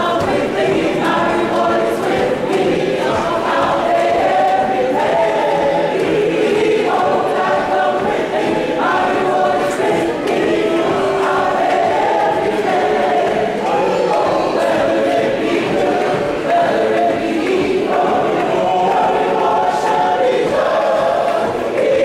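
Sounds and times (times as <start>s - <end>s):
choir singing a hymn: 0.0s - 22.0s.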